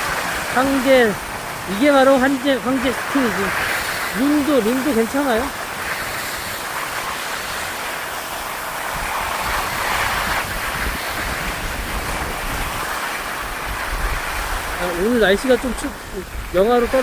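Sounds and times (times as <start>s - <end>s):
skis scraping over snow: 0.0s - 17.0s
wind buffeting microphone: 0.0s - 17.0s.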